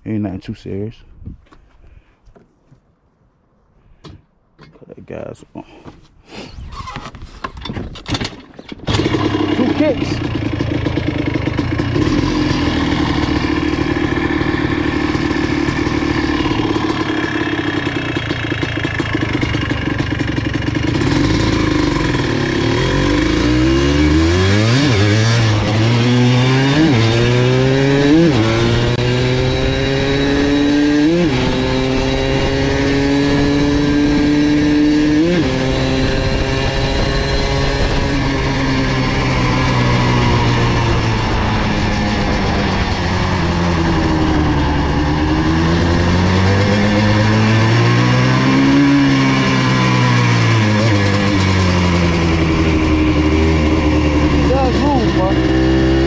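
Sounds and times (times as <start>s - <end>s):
two-stroke engine accelerating: 8.1s - 56.0s.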